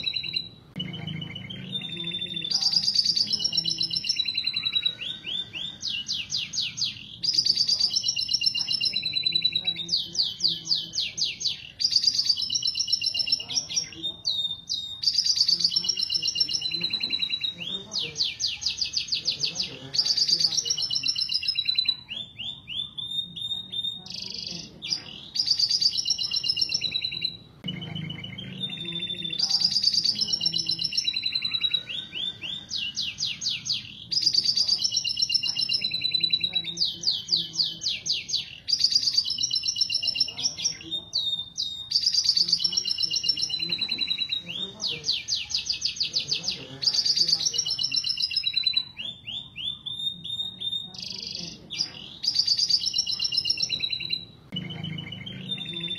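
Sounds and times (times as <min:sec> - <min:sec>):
canaries singing: 0:00.0 - 0:55.9.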